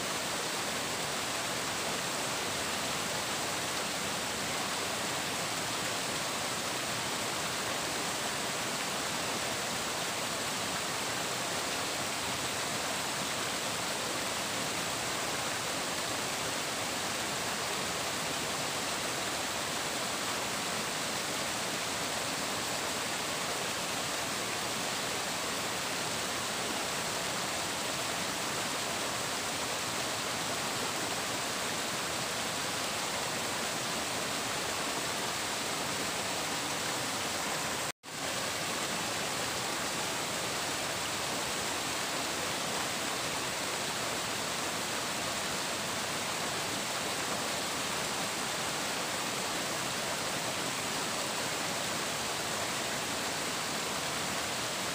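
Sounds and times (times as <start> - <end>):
water rushing: 0.0 - 54.9.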